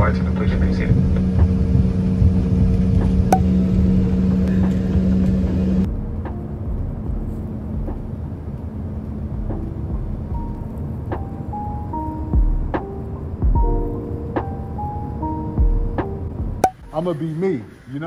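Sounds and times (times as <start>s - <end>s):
airliner engine drone: 0.0s - 18.0s.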